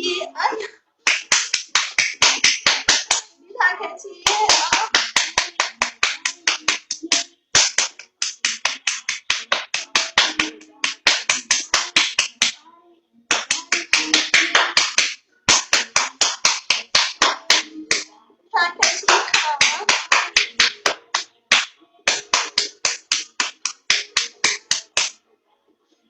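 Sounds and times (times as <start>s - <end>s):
rhythmic hand slapping: 1.0s - 3.3s, 4.2s - 12.6s, 13.3s - 18.1s, 18.8s - 25.2s.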